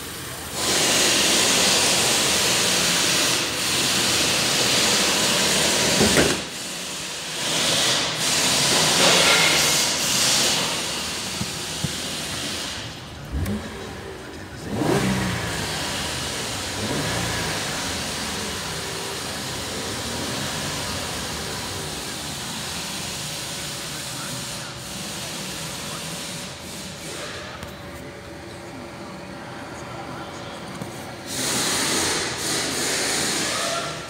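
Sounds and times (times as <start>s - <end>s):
hiss: 0.0s - 13.8s, 14.7s - 27.6s, 31.2s - 34.0s
car engine starting and revving: 0.5s - 27.6s, 30.1s - 34.0s.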